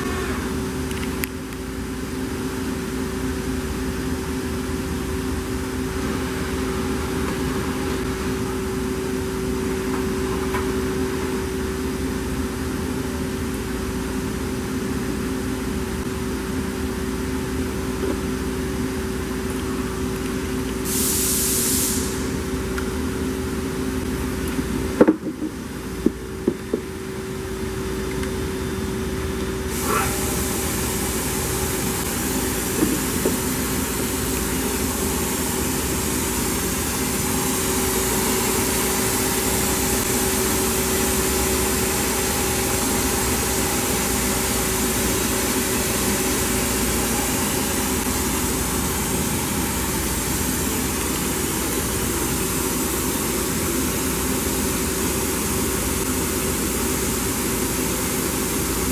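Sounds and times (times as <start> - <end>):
machine humming with hiss: 0.0 - 58.9.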